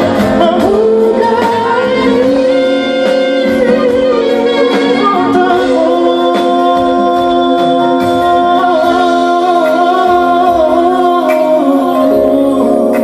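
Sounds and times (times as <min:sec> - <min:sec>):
band playing pop ballad: 0:00.0 - 0:13.0
man singing with vibrato: 0:00.0 - 0:13.0.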